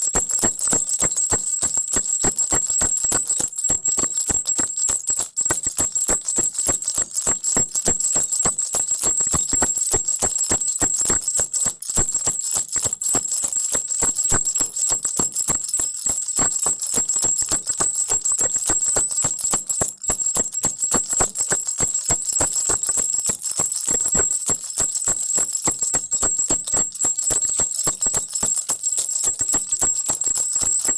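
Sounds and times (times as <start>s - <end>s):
baby rattle shaken: 0.0s - 30.9s.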